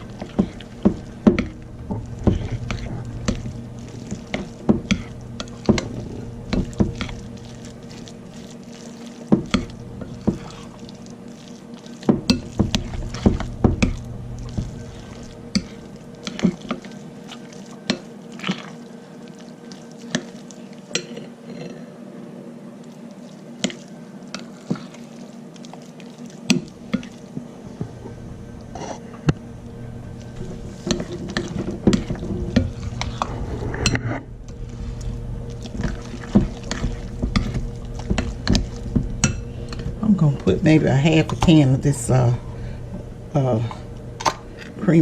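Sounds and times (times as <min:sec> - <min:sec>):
thick sauce squishing: 0:00.0 - 0:21.3, 0:22.8 - 0:28.8, 0:30.1 - 0:40.1.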